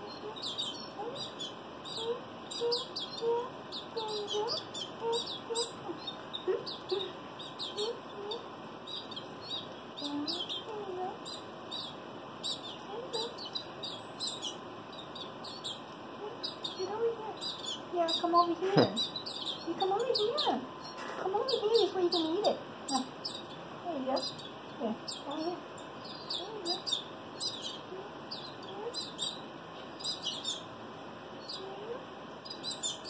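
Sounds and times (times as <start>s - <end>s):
young canaries chirping: 0.0s - 33.0s.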